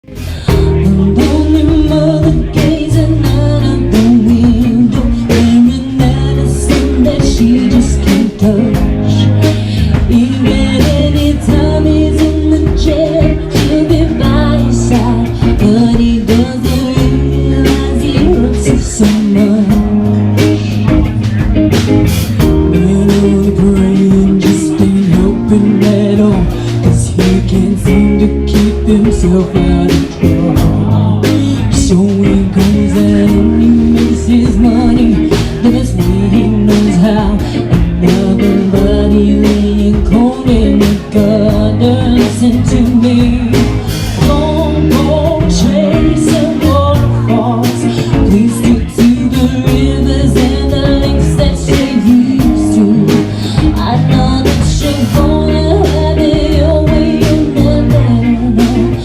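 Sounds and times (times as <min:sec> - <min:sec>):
song with singing and band: 0:00.0 - 0:59.0.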